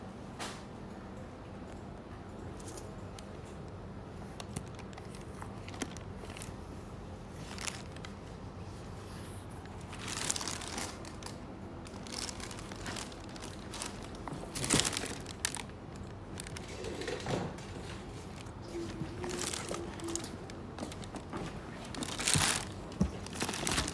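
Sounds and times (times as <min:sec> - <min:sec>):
packaging crinkling and rustling: 0:02.6 - 0:23.9.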